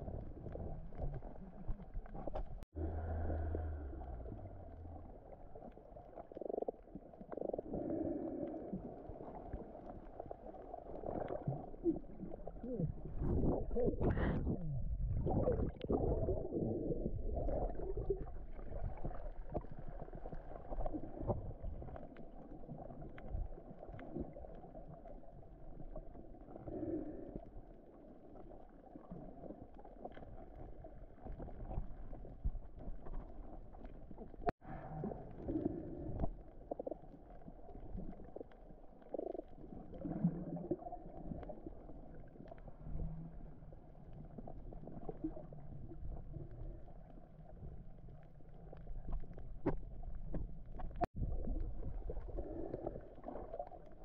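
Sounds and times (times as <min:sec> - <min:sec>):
muffled underwater churning: 0:00.0 - 0:54.0.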